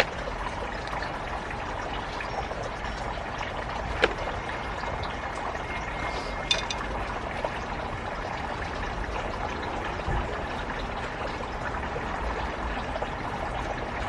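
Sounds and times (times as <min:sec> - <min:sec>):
running trickling water: 0:00.0 - 0:14.0.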